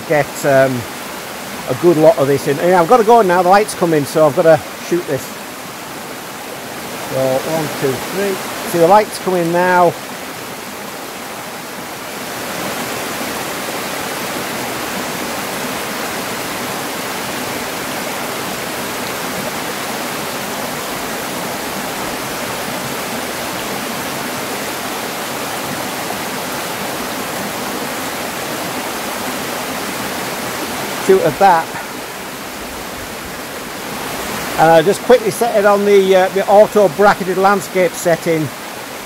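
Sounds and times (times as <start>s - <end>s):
stream running over rocks: 0.0s - 39.0s.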